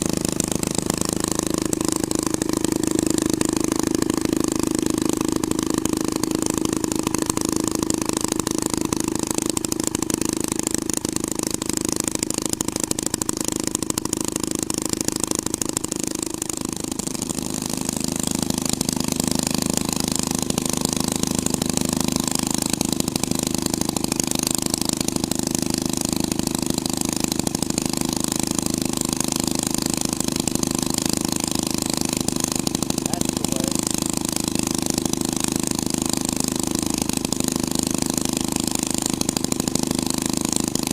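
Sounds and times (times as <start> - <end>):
hot rod engine idling: 0.0 - 40.9.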